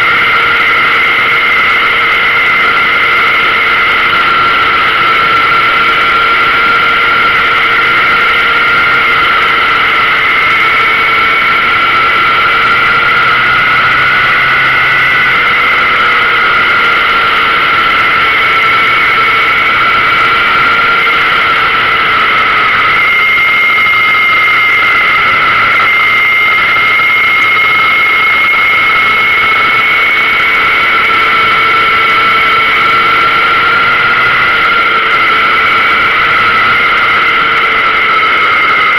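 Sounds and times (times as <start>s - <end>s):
high whistling tone: 0.0s - 38.9s
motorcycle engine running: 0.0s - 38.9s.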